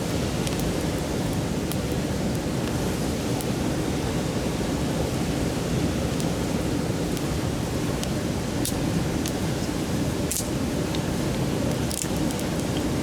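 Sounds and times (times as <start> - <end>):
campfire crackles: 0.0 - 13.0.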